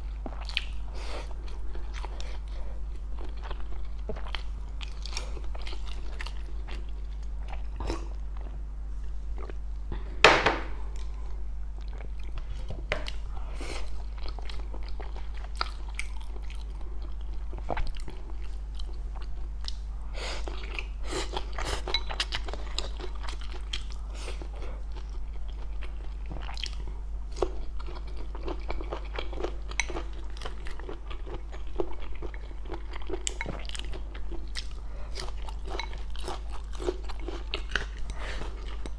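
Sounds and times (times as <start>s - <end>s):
chewing and crunching food: 0.0s - 10.1s, 10.8s - 38.9s
steady low hum: 0.0s - 38.9s.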